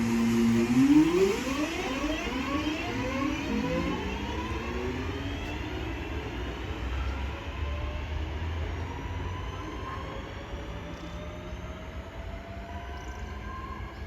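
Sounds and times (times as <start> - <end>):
train traction motors whining: 0.0 - 14.0.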